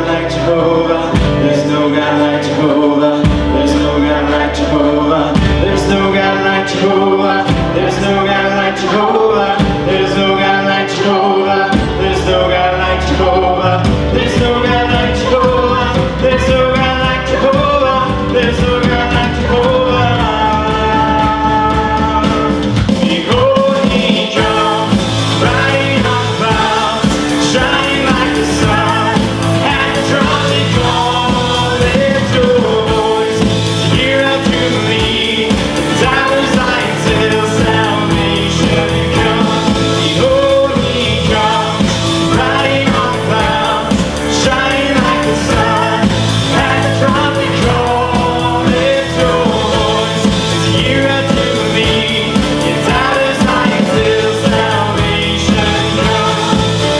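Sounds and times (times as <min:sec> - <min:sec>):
person singing: 0:00.0 - 0:56.9
worship band playing: 0:00.0 - 0:56.9.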